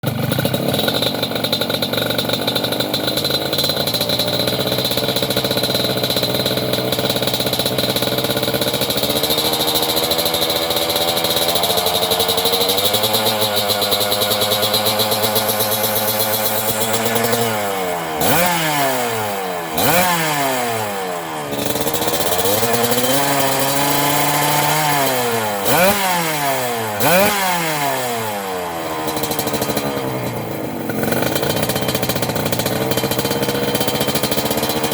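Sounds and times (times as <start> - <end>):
two-stroke motorcycle engine revving: 0.0 - 34.9.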